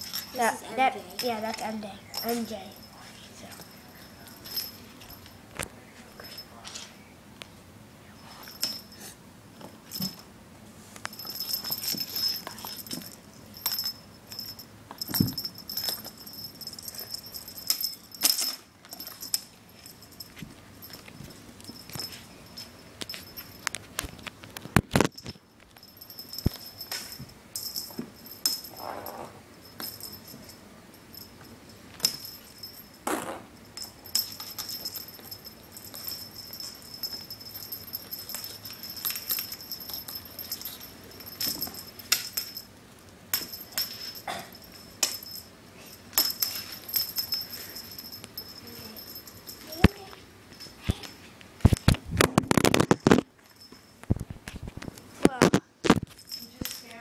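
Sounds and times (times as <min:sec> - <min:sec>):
small bell jingling: 0:00.0 - 0:06.9, 0:08.1 - 0:09.2, 0:09.8 - 0:10.3, 0:11.0 - 0:24.2, 0:24.9 - 0:51.3, 0:52.5 - 0:54.3, 0:56.0 - 0:57.0.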